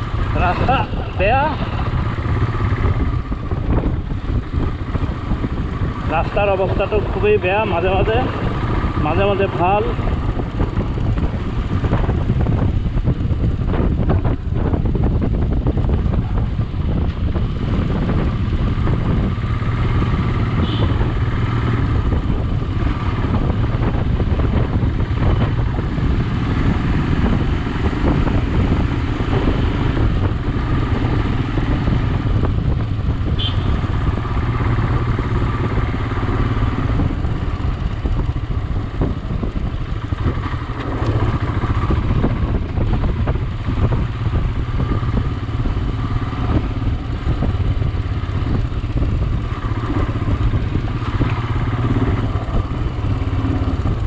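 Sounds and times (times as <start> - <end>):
low rumble from rough road: 0.0 - 54.0
motorcycle engine drone: 0.0 - 54.0.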